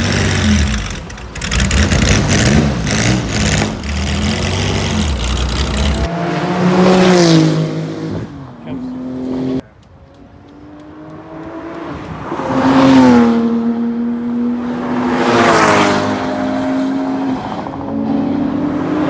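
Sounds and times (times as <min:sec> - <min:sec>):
sports car engines passing at speed: 0:00.0 - 0:19.0.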